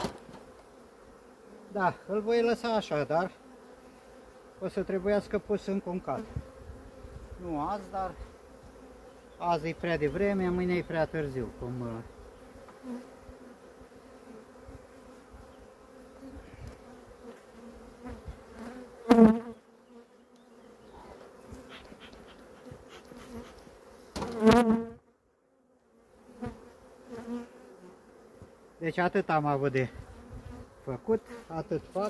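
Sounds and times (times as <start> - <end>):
honeybees buzzing: 0.0 - 32.0.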